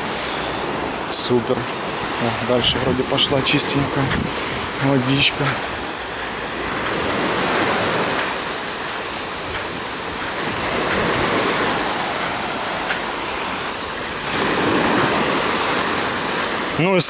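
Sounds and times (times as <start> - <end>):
small waves washing on sand: 0.0 - 17.0.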